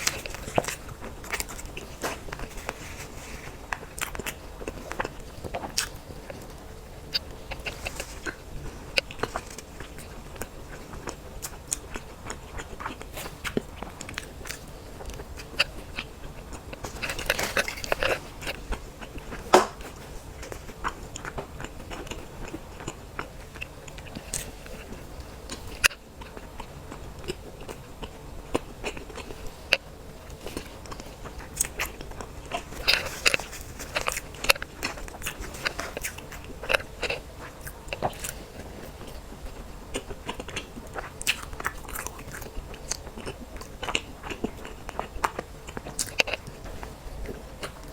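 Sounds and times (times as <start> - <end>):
chewing cake: 0.0 - 47.9.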